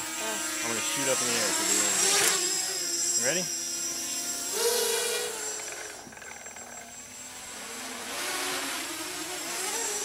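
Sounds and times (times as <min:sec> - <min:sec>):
drone motors buzzing: 0:00.0 - 0:10.0.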